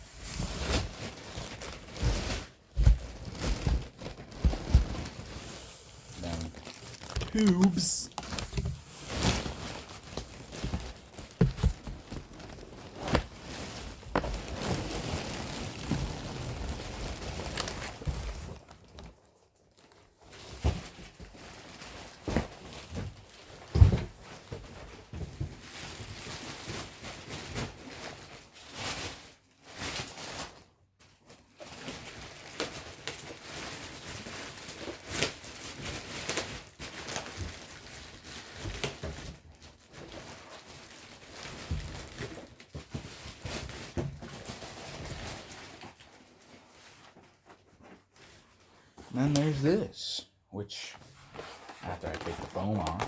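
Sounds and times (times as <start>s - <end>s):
packaging rustling and crinkling: 0.0s - 49.8s, 50.8s - 53.0s.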